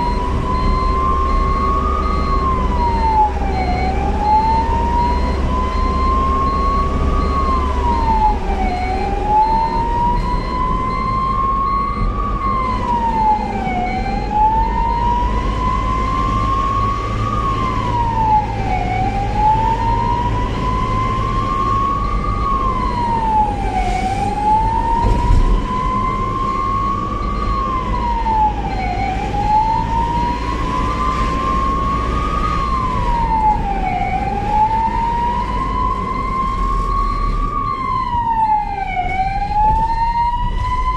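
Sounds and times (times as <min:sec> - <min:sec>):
ambulance siren wailing: 0:00.0 - 0:40.9
low rumble of moving vehicle: 0:00.0 - 0:40.9.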